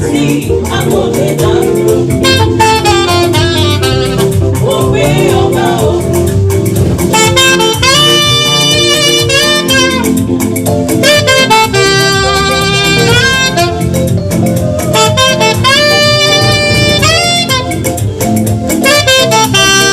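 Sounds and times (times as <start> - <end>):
gospel band playing: 0.0 - 19.9
saxophone melody: 0.0 - 19.9.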